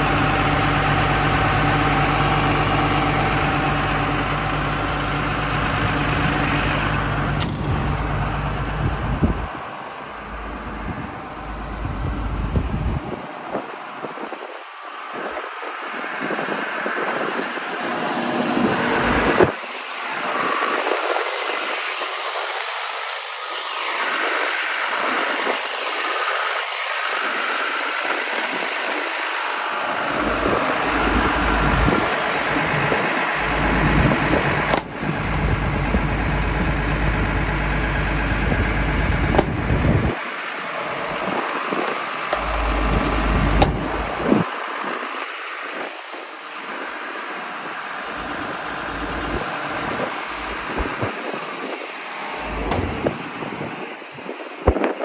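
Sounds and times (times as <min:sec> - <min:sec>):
excavator diesel engine running: 0:00.0 - 0:14.0, 0:14.8 - 0:54.2.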